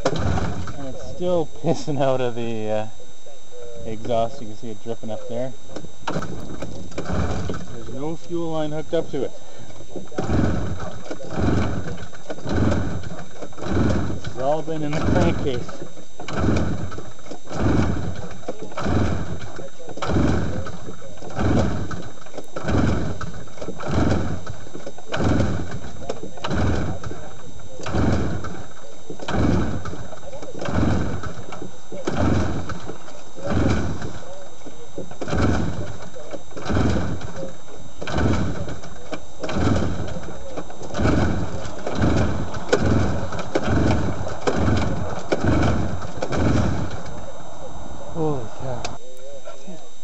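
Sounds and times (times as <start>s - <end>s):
engine pull-starter cranking: 0.0s - 2.8s, 3.9s - 49.0s.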